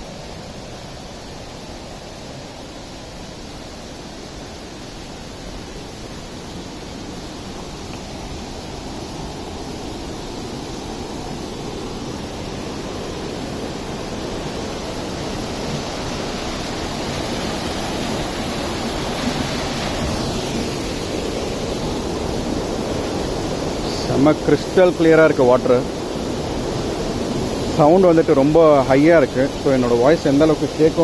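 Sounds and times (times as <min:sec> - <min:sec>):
flowing water rushing: 0:00.0 - 0:31.0.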